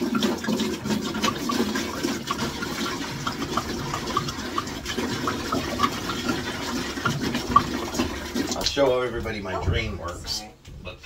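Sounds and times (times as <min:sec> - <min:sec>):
water pouring into plastic bucket: 0:00.0 - 0:09.5
water jug gurgling: 0:00.0 - 0:10.2.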